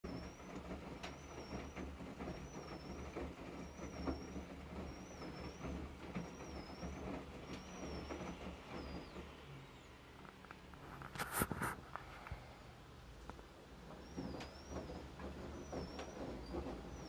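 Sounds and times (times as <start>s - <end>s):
washing machine squeaking: 0.0s - 11.8s, 13.7s - 17.0s
washing machine hum: 0.0s - 17.0s.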